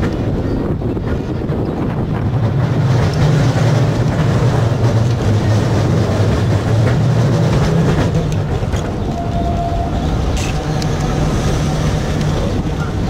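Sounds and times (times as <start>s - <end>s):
tram hum: 0.0s - 13.0s
wheels on rail: 0.0s - 13.0s.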